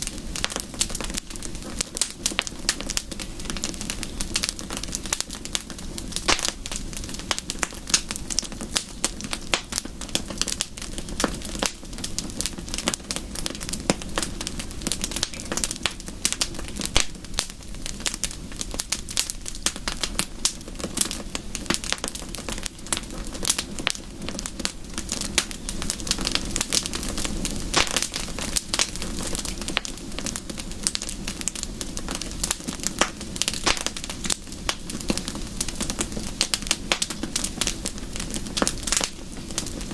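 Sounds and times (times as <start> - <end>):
low fire rumble: 0.0 - 39.9
soft rain: 0.0 - 39.9
wood fire popping and snapping: 0.0 - 39.9.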